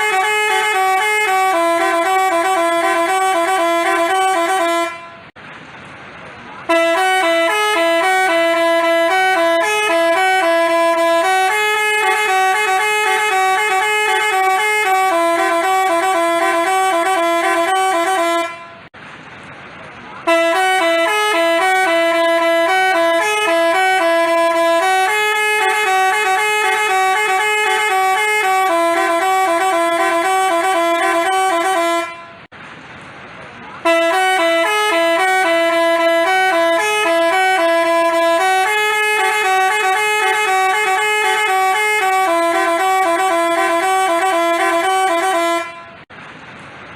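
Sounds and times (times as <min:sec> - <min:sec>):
multi-trumpet bus horn melody: 0:00.0 - 0:05.4, 0:06.6 - 0:19.0, 0:20.2 - 0:32.5, 0:33.8 - 0:46.1.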